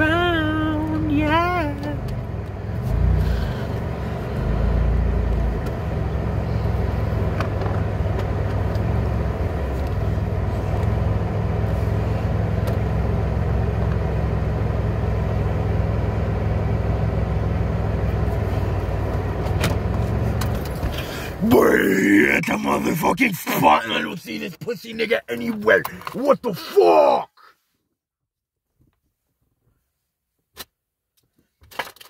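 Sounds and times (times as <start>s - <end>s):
car engine drone: 0.0s - 27.2s
road noise: 0.0s - 27.2s.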